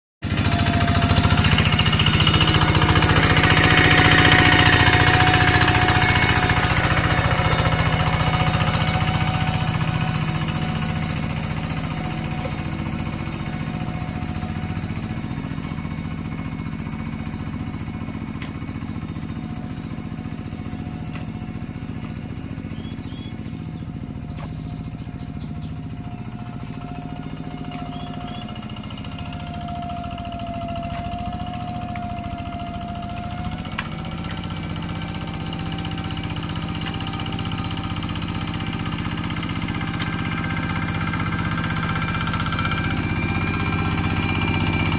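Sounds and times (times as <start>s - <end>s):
tractor engine chugging: 0.2s - 44.9s.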